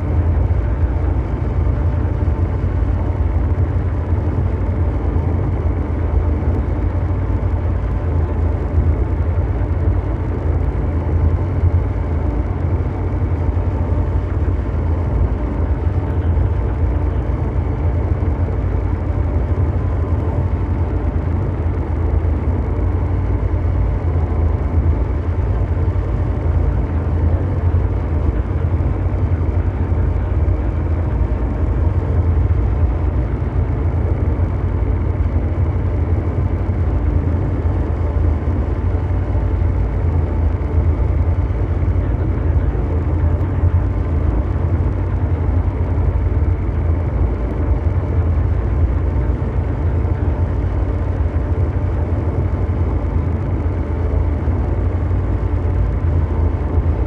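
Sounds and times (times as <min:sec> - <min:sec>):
deep mechanical drone: 0:00.0 - 0:57.0
faint hum: 0:00.0 - 0:57.0.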